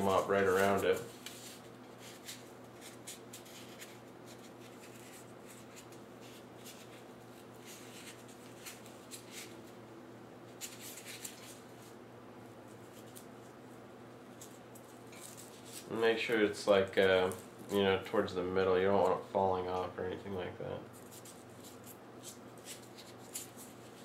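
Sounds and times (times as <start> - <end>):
yarn rustling and scratching: 0.0 - 9.8, 10.4 - 19.2, 20.9 - 24.0
steady low hum: 0.0 - 24.0.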